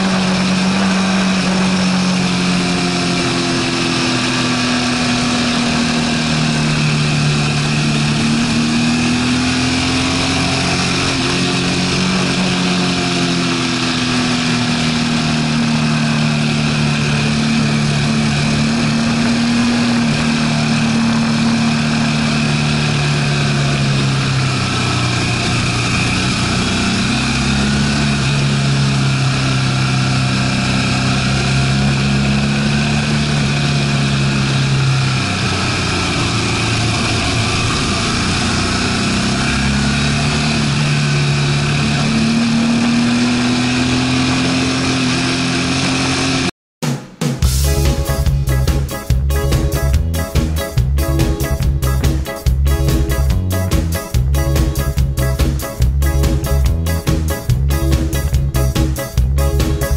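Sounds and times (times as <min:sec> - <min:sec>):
motorcycle engine running: 0:00.0 - 0:46.5, 0:47.4 - 0:59.9
wind and road noise: 0:00.0 - 0:46.5, 0:47.6 - 0:59.9.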